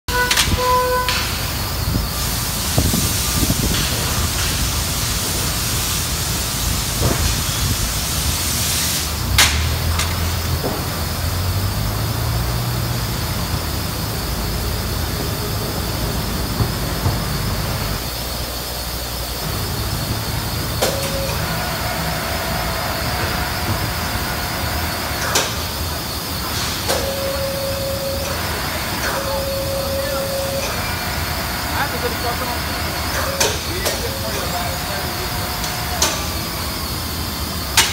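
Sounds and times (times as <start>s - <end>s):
low machine hum: 0.1s - 37.9s
steady high hiss: 1.1s - 37.9s.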